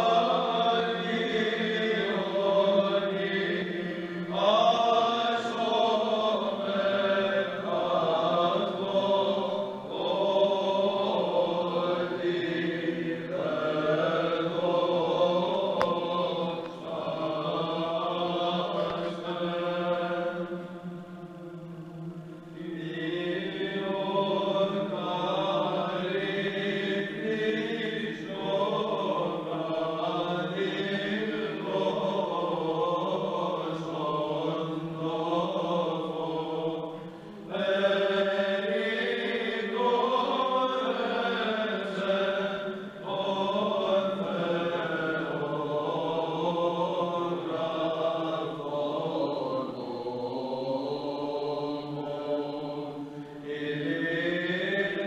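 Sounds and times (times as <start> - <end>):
male choir chanting: 0.0 - 55.0.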